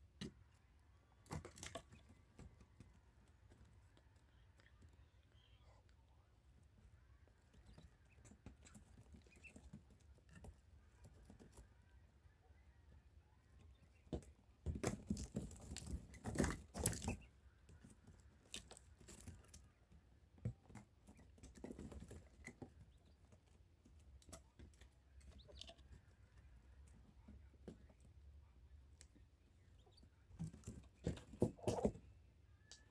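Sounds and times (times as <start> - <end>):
quail scuffling and scratching: 0.0 - 32.9
quail tapping and rustling: 0.0 - 32.9.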